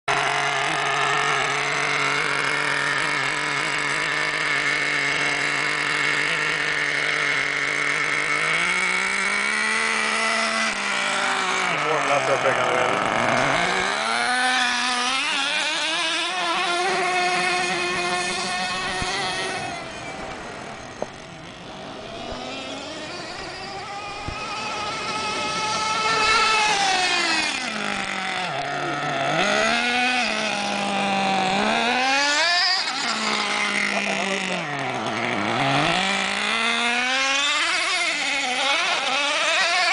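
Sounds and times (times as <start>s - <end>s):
car engine revving: 0.1s - 39.9s.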